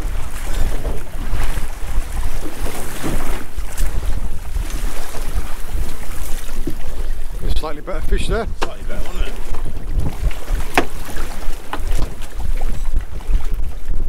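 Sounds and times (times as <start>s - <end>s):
water splashing against boat: 0.0s - 14.0s
wind buffeting microphone: 0.0s - 14.0s.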